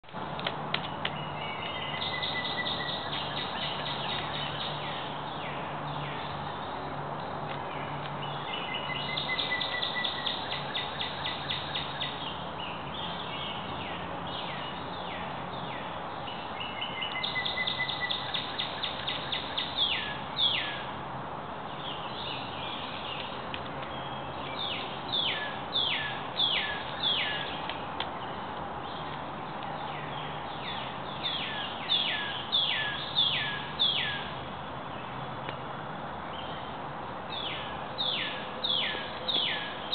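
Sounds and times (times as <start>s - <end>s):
birds singing: 0.9s - 20.9s, 21.7s - 35.6s, 36.2s - 39.9s.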